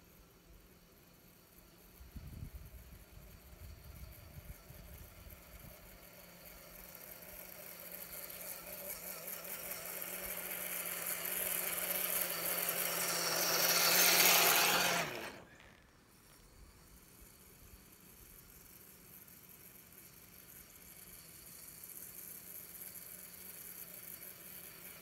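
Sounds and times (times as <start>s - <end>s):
toy truck electric motor whining: 0.0s - 25.0s.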